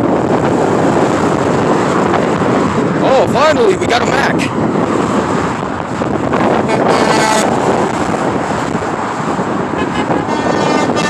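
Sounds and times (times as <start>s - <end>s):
heavy highway traffic roar: 0.0s - 11.0s
wind buffeting microphone: 0.0s - 11.0s.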